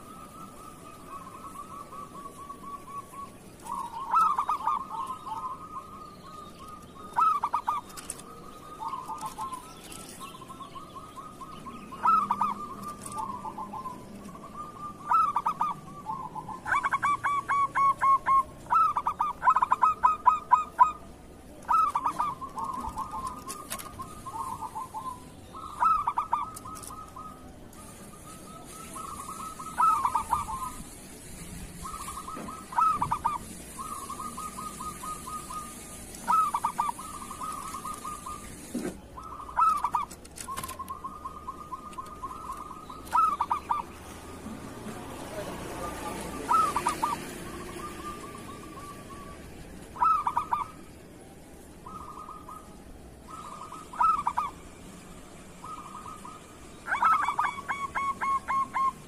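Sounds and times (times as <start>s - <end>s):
dove cooing: 0.0s - 51.0s, 51.8s - 59.0s.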